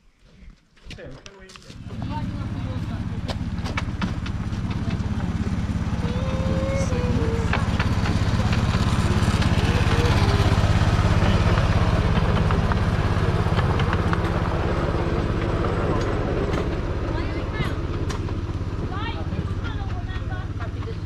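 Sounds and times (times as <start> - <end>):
small locomotive engine running: 1.8 - 21.0.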